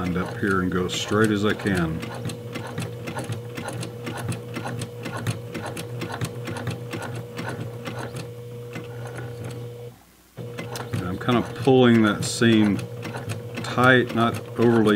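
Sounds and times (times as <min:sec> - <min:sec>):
sewing machine running: 0:00.0 - 0:09.7, 0:10.4 - 0:14.9.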